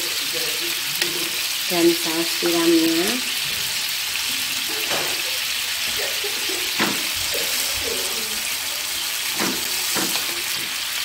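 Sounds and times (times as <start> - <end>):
sauce sizzling in a frying pan: 0.0 - 11.0.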